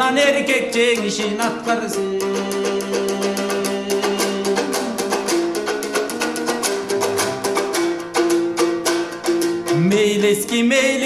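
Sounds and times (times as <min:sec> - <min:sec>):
lute strummed fast: 0:00.0 - 0:11.0.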